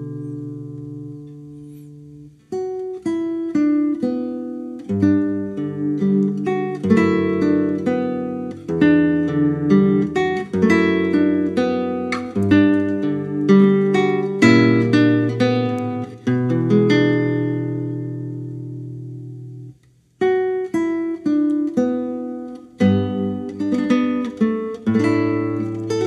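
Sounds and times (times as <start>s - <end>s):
fingerstyle classical guitar: 0.0s - 26.0s.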